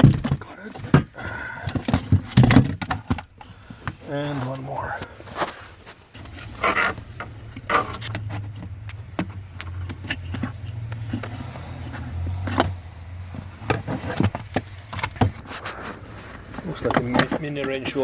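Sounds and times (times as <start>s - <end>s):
hand tools clicking and scraping: 0.0s - 18.0s.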